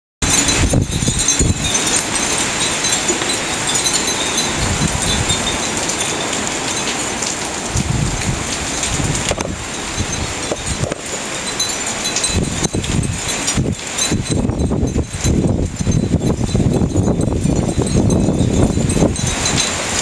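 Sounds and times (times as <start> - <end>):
heavy rain pouring: 0.2 - 20.0
wind chime tinkling: 0.2 - 20.0
wind gusts on microphone: 0.2 - 20.0.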